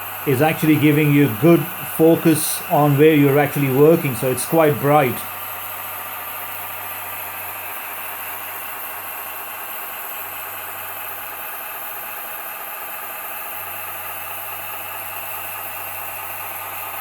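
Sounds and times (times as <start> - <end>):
simulated diesel engine idling: 0.0 - 16.8.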